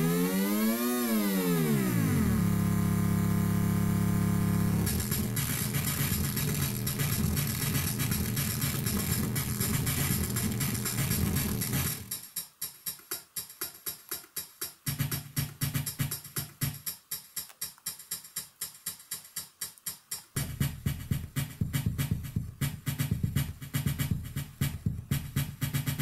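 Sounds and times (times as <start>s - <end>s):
clicky electronic drum beat: 4.8s - 26.0s
low drum part: 4.8s - 26.0s.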